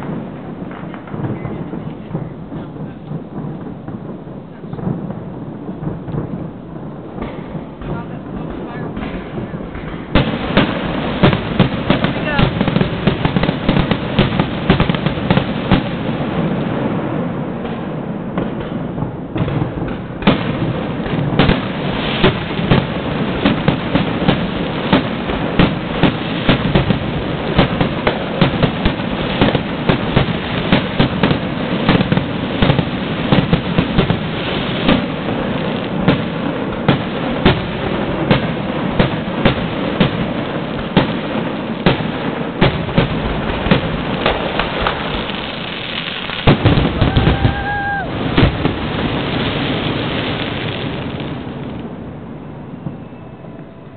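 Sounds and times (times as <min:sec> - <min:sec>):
firework shells bursting: 0:00.0 - 0:52.2
rumbling crackle: 0:00.0 - 0:53.2.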